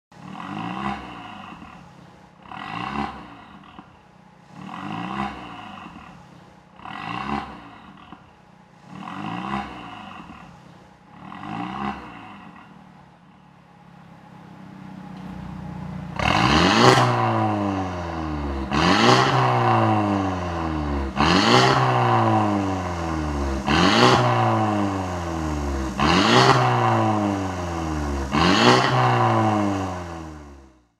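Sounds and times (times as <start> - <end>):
car engine revving: 0.2 - 30.9.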